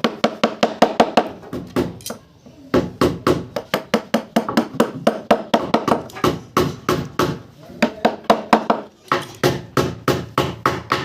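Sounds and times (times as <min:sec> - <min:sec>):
hammer striking wood: 0:00.0 - 0:02.0, 0:02.8 - 0:11.0.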